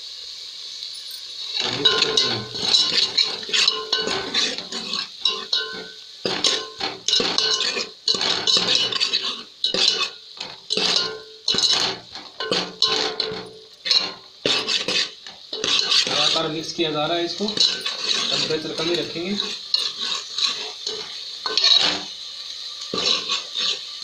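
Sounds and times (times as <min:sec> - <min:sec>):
steel ladle scraping a pot: 0:01.1 - 0:16.5, 0:17.4 - 0:22.1, 0:22.9 - 0:24.0.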